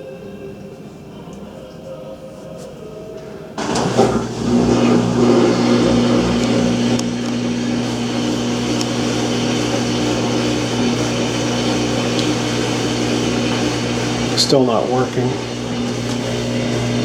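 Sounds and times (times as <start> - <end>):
washing machine humming: 3.0 - 17.0.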